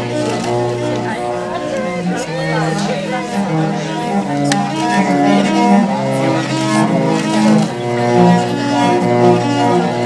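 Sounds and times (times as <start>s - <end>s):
viola playing slow melody: 0.0s - 10.0s.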